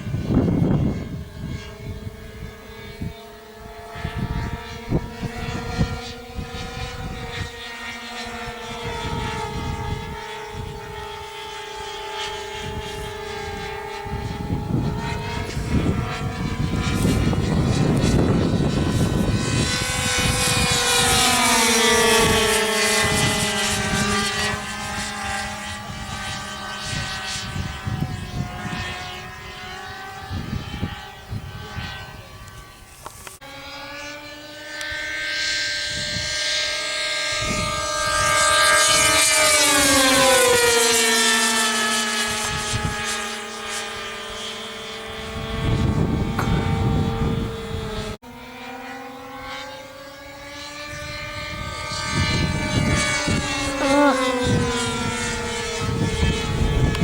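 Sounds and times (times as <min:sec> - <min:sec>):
model plane engines flying past: 0:00.0 - 0:57.0.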